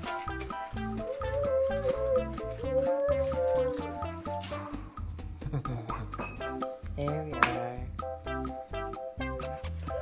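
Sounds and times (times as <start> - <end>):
instrumental tune with bass line: 0.3 - 10.0.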